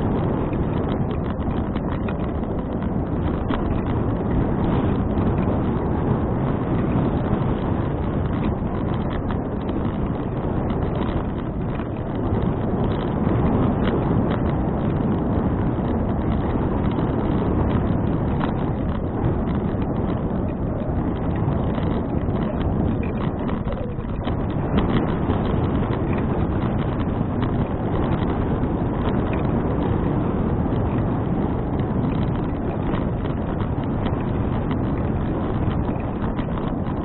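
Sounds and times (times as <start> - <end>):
bicycle ticks and rattles: 0.0 - 37.0
road noise: 0.0 - 37.0
wind rumble on microphone: 0.0 - 37.0.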